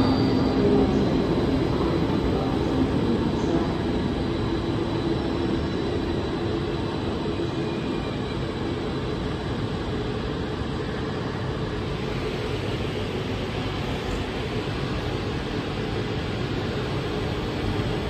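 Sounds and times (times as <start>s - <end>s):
electric train rumble and hum: 0.0s - 18.0s.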